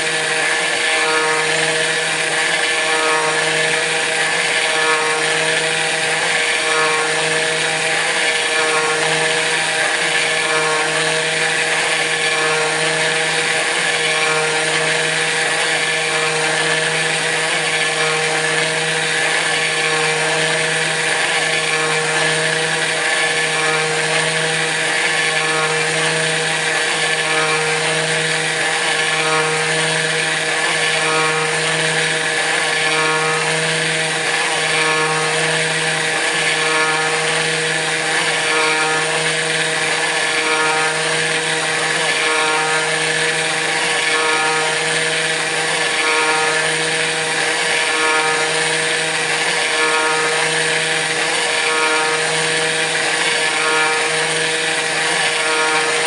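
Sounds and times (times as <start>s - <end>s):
router spindle milling metal: 0.0s - 56.0s.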